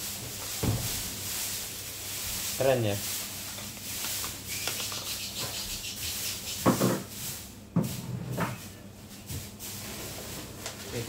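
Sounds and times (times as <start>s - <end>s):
light rustling and shuffling: 0.0s - 11.0s.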